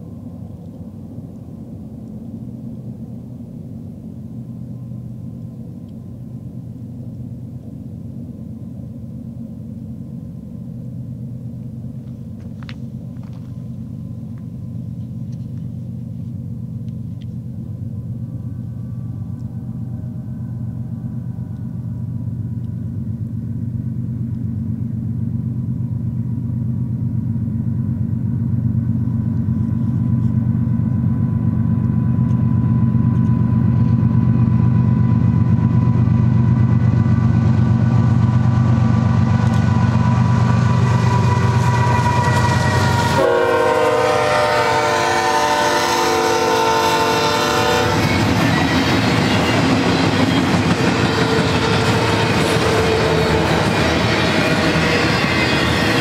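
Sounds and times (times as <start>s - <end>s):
faint steady whine: 0.0s - 56.0s
locomotive engine rumble: 0.0s - 56.0s.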